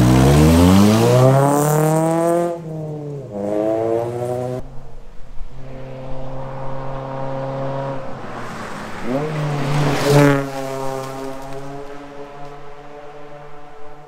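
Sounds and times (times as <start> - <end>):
gravel and tyre noise: 0.0 - 14.0
rally car engine revving: 0.0 - 14.0.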